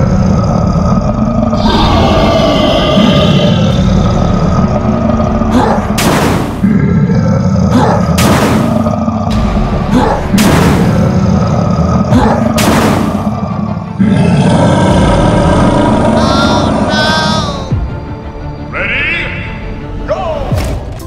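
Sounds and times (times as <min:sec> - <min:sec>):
monster growling roar: 0:00.0 - 0:06.0, 0:06.6 - 0:17.7.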